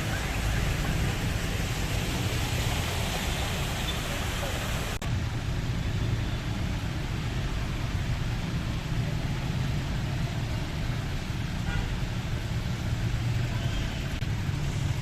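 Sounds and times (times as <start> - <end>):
traffic on a flooded road: 0.0 - 15.0.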